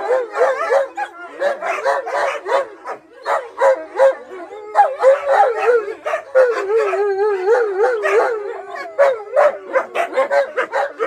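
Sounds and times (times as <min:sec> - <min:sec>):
dogs yipping and barking: 0:00.0 - 0:11.0
wolfdogs howling: 0:00.0 - 0:11.0.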